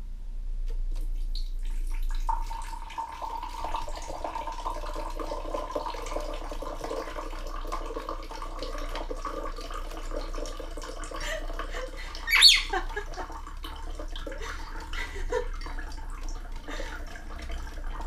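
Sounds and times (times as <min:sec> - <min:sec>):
water pouring into a glass: 0:01.4 - 0:18.0.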